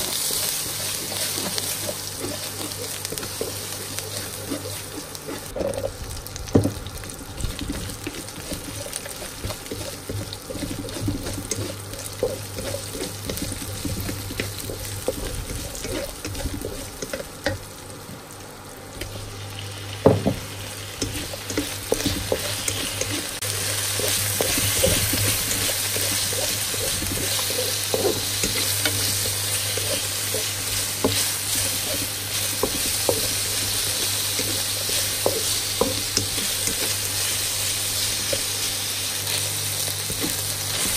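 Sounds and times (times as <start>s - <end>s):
wooden spatula scraping wok: 0.0s - 6.0s, 7.2s - 17.3s, 21.0s - 39.4s
food sizzling in oil: 0.0s - 40.9s.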